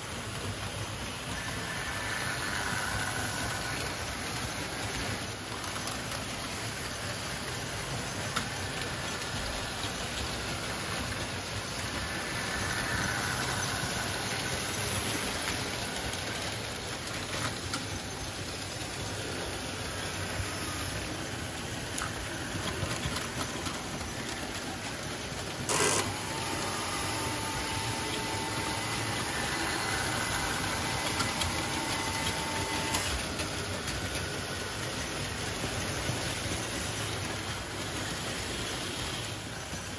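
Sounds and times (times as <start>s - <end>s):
model train rumbling on track: 0.0s - 39.9s.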